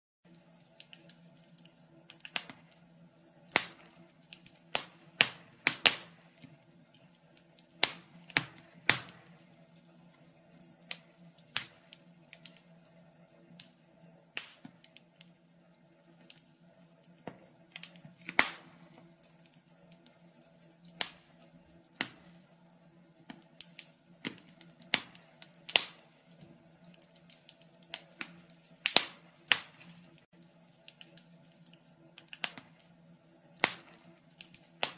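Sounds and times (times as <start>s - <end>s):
wood fire crackling and popping: 0.3s - 34.9s.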